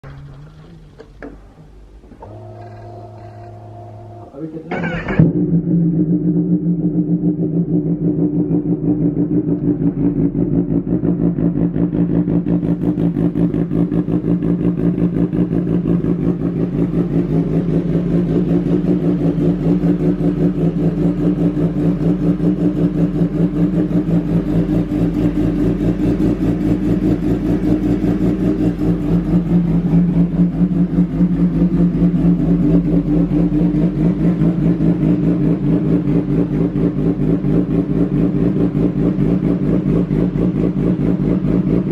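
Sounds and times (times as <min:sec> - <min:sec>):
motorcycle idling: 0:00.0 - 0:41.9.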